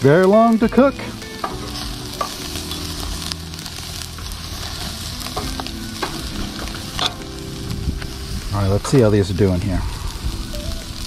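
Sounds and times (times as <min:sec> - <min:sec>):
meat sizzling over charcoal: 0:00.0 - 0:11.0.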